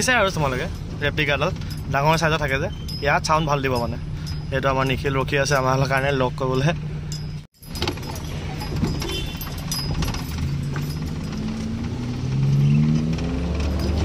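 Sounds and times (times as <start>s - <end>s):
car engine: 0.0s - 14.0s
road noise inside car: 0.0s - 14.0s.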